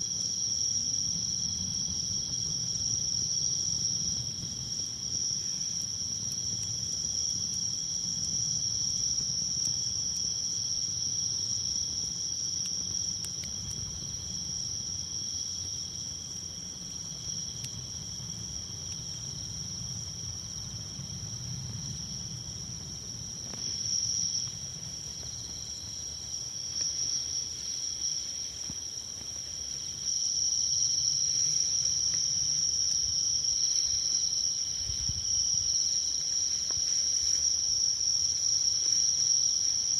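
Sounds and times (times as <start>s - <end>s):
crickets trilling: 0.0s - 39.9s
campfire snaps: 0.1s - 34.3s.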